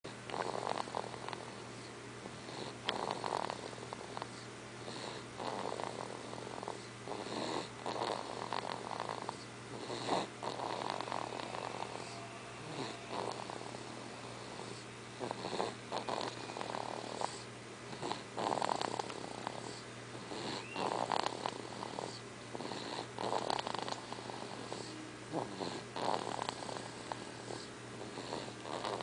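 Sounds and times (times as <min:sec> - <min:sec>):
snoring breaths: 0:00.1 - 0:29.0.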